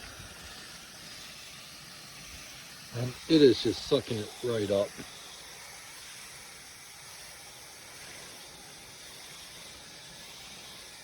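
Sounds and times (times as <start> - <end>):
misting nozzle spraying water: 0.0 - 11.0.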